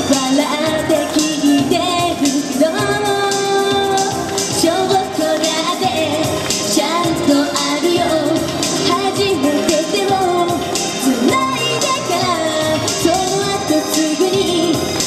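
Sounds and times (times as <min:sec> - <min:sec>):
upbeat backing track: 0:00.0 - 0:15.0
woman singing pop song: 0:00.0 - 0:15.0.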